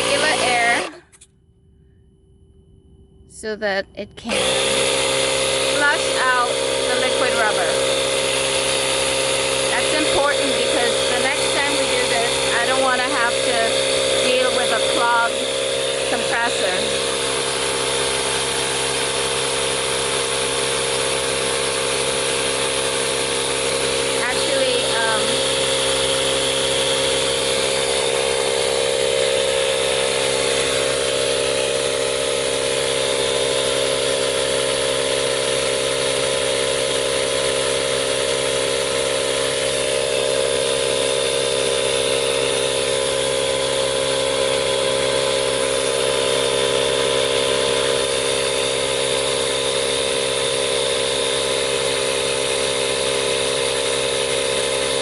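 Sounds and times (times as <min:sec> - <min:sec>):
air compressor running: 0:00.0 - 0:03.4, 0:04.1 - 0:55.0.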